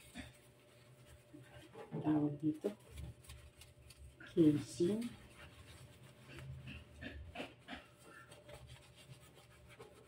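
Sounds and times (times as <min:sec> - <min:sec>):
sponge scrubbing plastic: 0:00.0 - 0:10.0.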